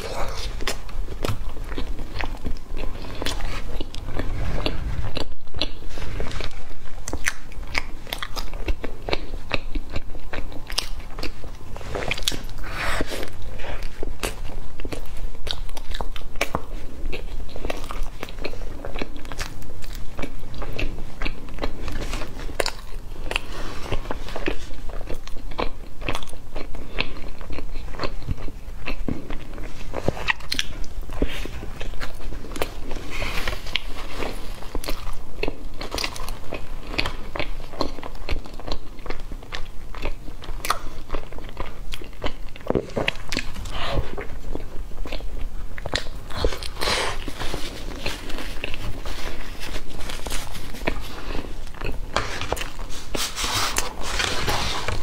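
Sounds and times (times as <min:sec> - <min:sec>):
biting and chewing: 0:00.0 - 0:55.0.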